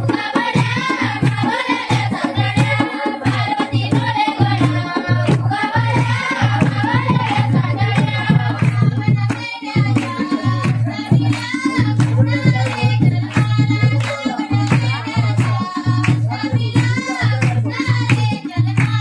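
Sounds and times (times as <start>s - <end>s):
hand drum beating: 0.0s - 19.0s
person singing folk song: 0.0s - 19.0s.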